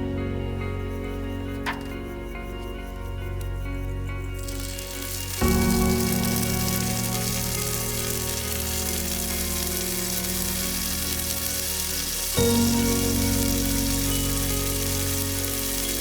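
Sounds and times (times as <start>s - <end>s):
music of sustained chords: 0.0s - 16.0s
steady sizzling hiss: 0.0s - 16.0s.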